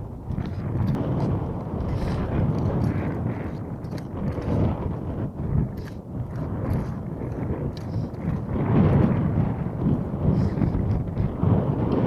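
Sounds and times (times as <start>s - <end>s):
gusty wind buffeting microphone: 0.0s - 12.0s.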